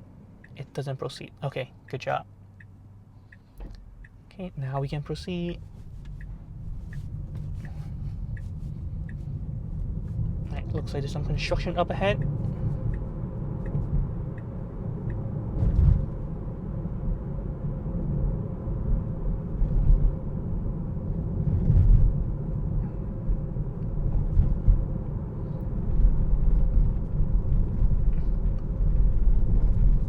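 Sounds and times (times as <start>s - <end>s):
road and tyre rumble: 0.0s - 30.0s.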